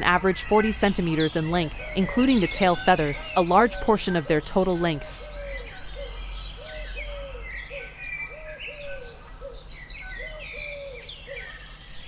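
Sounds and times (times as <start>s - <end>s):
low repeated bird call: 0.0s - 12.0s.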